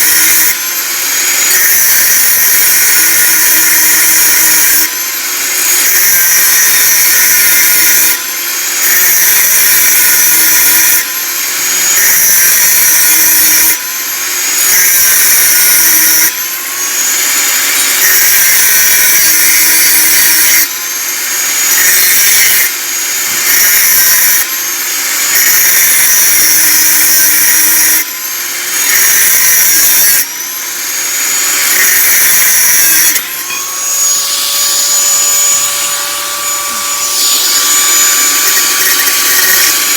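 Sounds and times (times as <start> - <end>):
angle grinder motor whine: 0.0 - 39.9.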